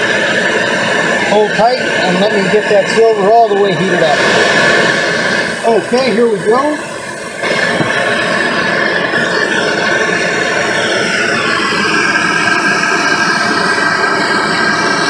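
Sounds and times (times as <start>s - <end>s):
gas torch hissing and whistling: 0.0s - 15.0s.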